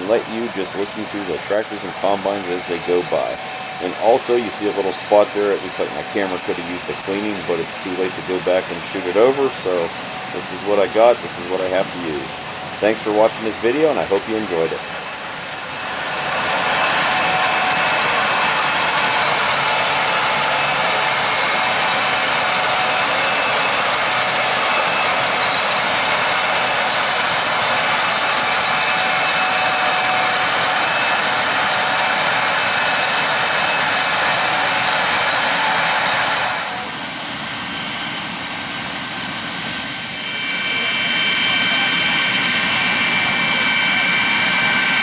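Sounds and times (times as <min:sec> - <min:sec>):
faint machine whines: 0:00.0 - 0:45.0
loud steady machine rush: 0:00.0 - 0:45.0.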